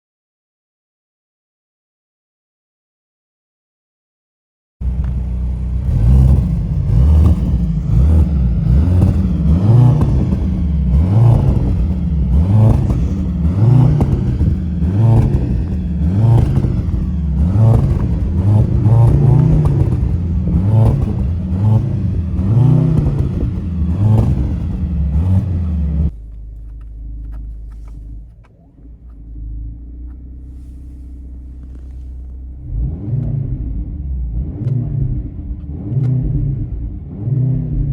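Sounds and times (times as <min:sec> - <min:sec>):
car engine revving: 0:04.8 - 0:37.9
engine steady drone: 0:04.8 - 0:37.9.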